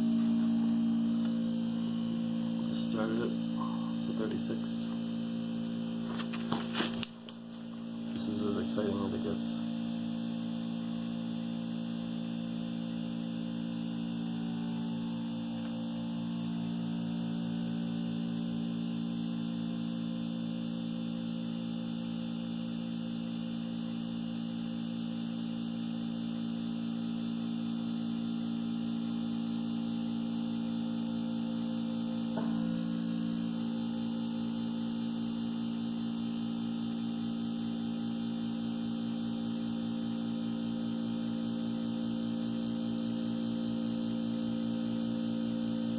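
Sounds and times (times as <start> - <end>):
refrigeration compressor humming: 0.0 - 45.9.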